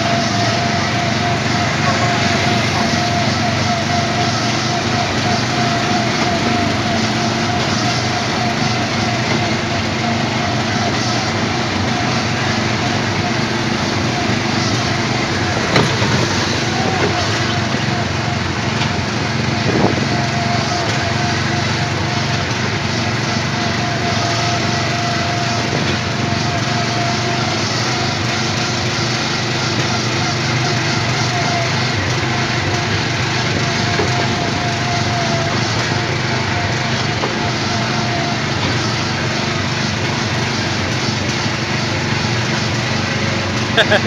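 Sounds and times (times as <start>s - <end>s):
small petrol engine droning: 0.0s - 44.0s
thin whine: 0.0s - 44.0s.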